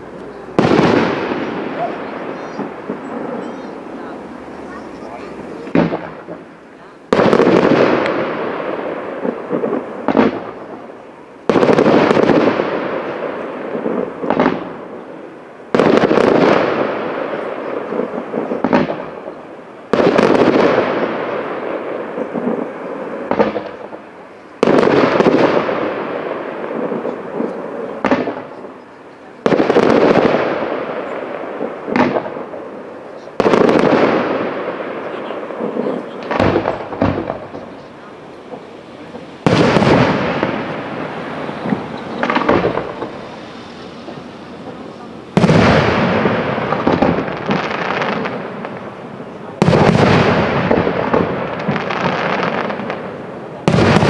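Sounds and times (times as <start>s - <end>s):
faint firework crack: 0.0s - 54.0s
fireworks bursting with loud bangs: 0.0s - 54.0s.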